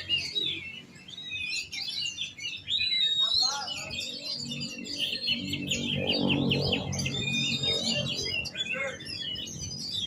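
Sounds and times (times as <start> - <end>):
bird singing varied song: 0.0 - 10.0.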